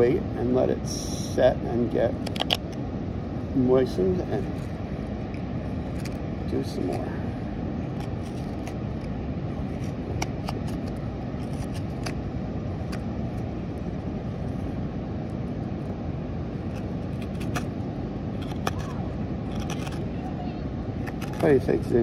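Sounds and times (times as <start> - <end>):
low outdoor rush: 0.0 - 22.0.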